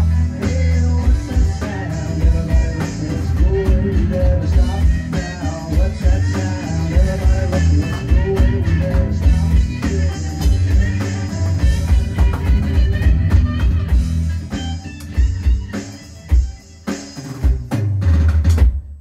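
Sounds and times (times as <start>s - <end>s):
rock music with guitar and drums: 0.0s - 18.8s.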